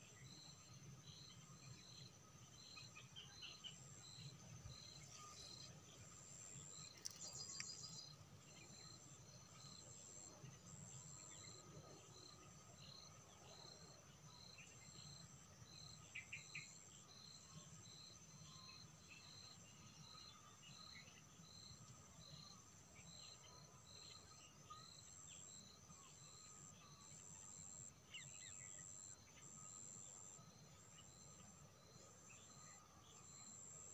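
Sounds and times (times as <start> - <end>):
faint insects chirping: 0.0 - 33.9.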